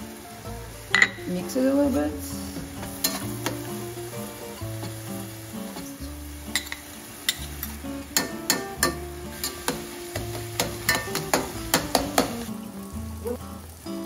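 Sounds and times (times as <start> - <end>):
background music with bass line: 0.0 - 14.0
meat and vegetables sizzling: 0.0 - 14.0.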